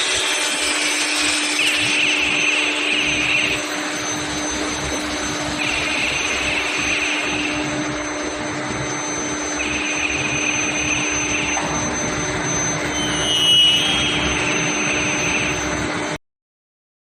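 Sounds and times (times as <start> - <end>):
higher machine sound: 0.0 - 16.2
machine hum and whine: 0.0 - 16.2.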